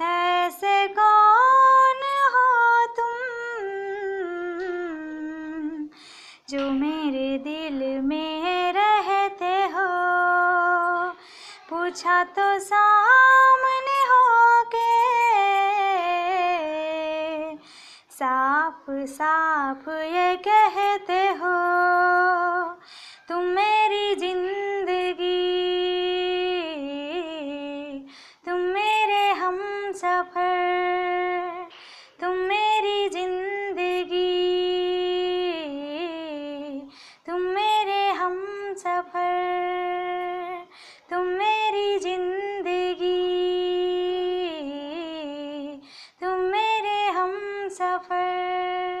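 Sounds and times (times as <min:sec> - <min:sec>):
woman singing without words: 0:00.0 - 0:49.0.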